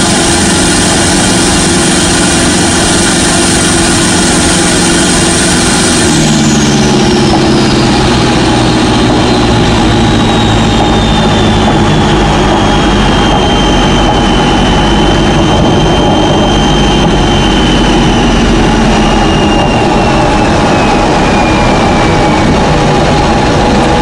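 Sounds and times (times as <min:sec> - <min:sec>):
diesel engine running: 0:00.0 - 0:24.0
road noise inside car: 0:00.0 - 0:24.0
thin high whine: 0:00.0 - 0:24.0.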